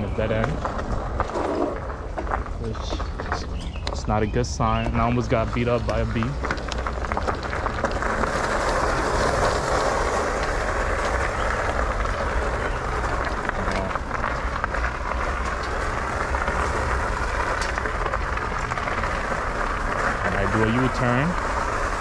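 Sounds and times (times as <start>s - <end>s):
tires rolling over rough ground: 0.0s - 22.0s.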